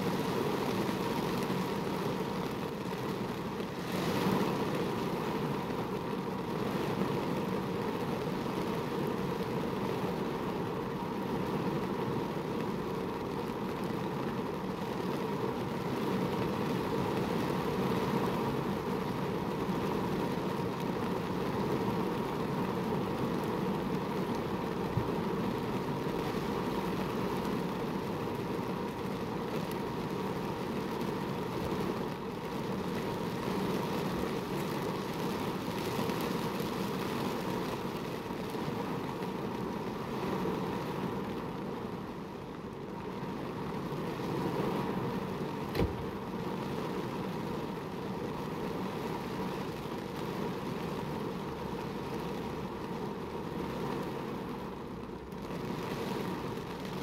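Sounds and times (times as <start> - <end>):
heavy rain on a car roof: 0.0 - 57.0.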